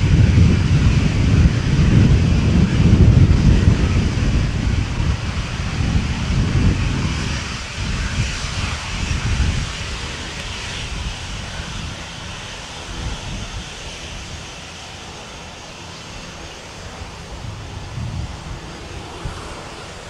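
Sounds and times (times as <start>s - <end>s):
jet engines running: 0.0s - 20.0s
wind buffeting microphone: 0.0s - 20.0s.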